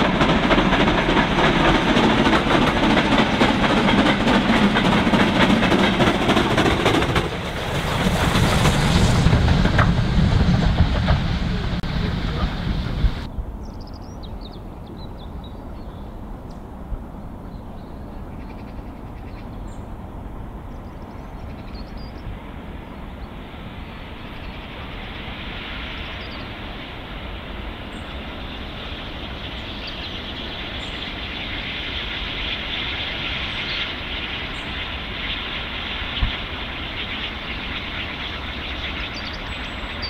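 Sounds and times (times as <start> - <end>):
steam locomotive approaching: 0.0 - 40.0.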